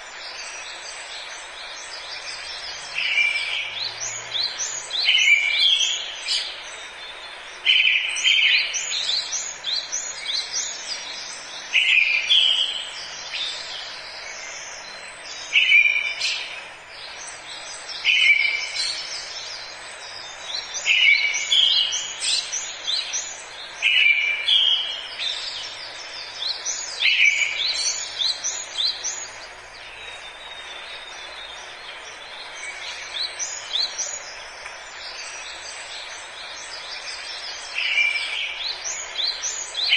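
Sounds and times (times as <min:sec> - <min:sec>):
background hiss: 0:00.0 - 0:39.9
birds singing: 0:00.0 - 0:39.9.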